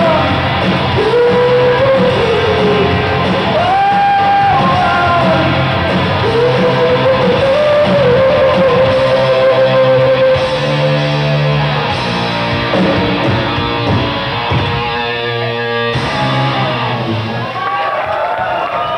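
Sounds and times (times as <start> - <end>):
rock band playing: 0.0 - 17.8
distorted electric guitars: 0.0 - 18.0.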